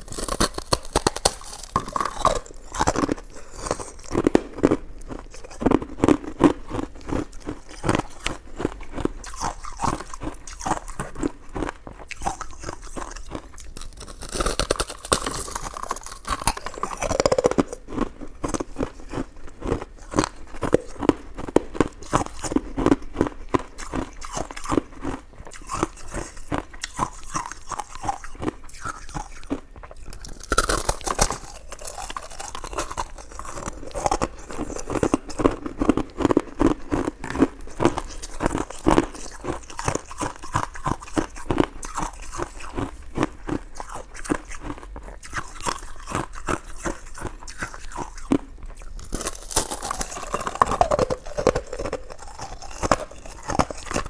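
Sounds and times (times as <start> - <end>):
wet chewing clicks and smacks: 0.0 - 54.0.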